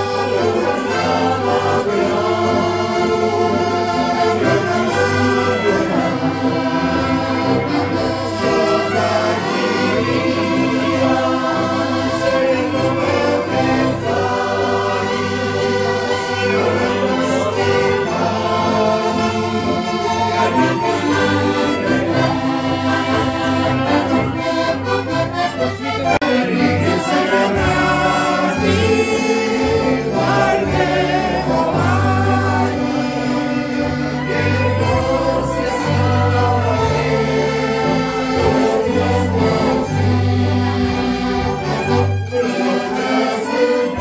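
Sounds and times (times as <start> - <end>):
men singing in chorus: 0.0 - 24.6, 26.2 - 41.2, 42.3 - 44.0
accordion bass line: 0.0 - 44.0
violin clarinet and accordion band: 0.0 - 44.0.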